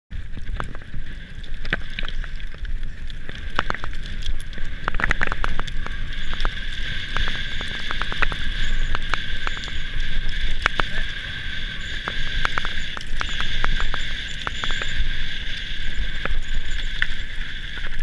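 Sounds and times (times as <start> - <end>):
bike tyres crunching on rock: 0.1 - 18.0
stones and bike rattling: 0.1 - 18.0
wind rumble on microphone: 0.1 - 18.0.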